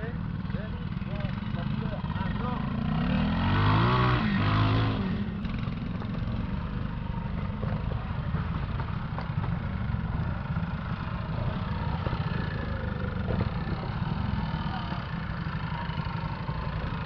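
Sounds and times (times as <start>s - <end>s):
two-stroke motorcycle engine idling: 0.0s - 17.0s.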